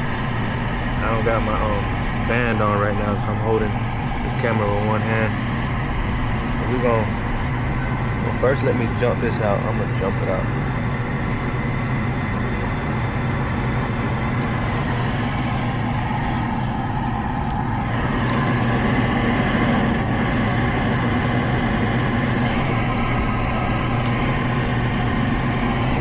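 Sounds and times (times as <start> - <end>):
furnace motor hum: 0.0 - 26.0.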